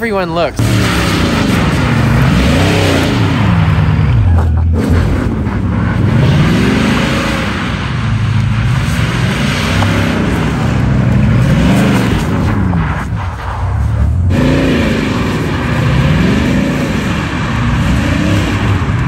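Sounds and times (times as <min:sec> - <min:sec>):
car engine revving: 0:00.4 - 0:19.0.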